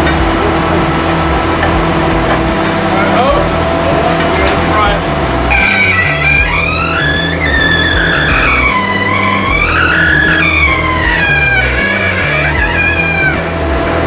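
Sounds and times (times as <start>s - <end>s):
bass line: 0.0s - 14.0s
sliding lead melody: 0.0s - 14.0s.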